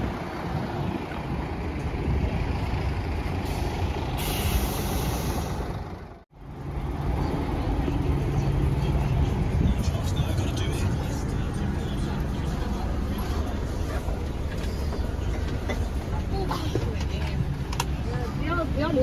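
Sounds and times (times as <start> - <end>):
coach engine idling: 1.0 - 19.0.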